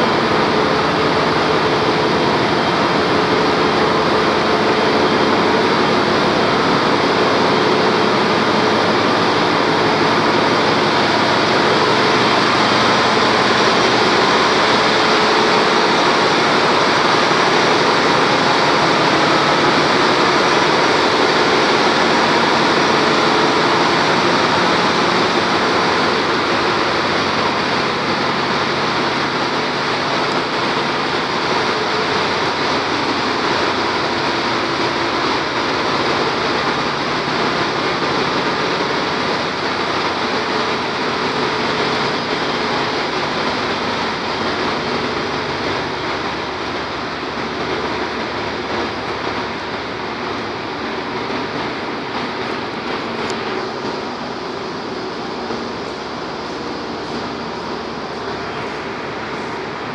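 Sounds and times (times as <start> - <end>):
engine room machinery din: 0.0 - 59.9.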